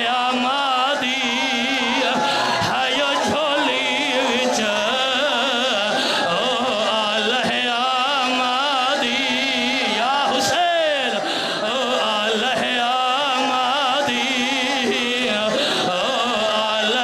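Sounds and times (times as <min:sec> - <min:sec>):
voices wailing a lament over loudspeaker: 0:00.0 - 0:17.0.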